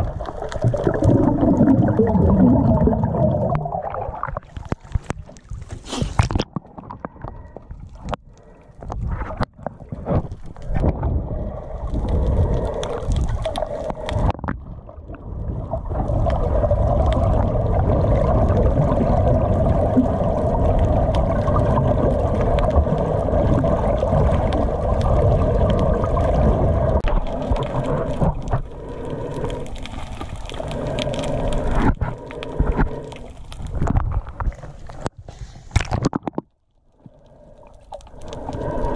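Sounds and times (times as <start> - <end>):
underwater splashing and gurgling: 0.0 - 38.9.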